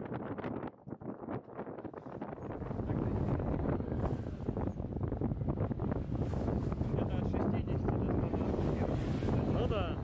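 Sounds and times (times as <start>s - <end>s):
rush of the sea: 0.0s - 10.0s
wind buffeting microphone: 0.0s - 10.0s.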